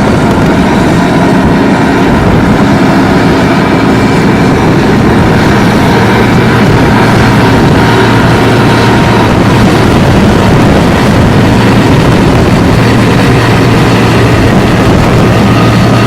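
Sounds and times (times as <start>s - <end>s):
heavy machinery engine rumble: 0.0s - 16.0s.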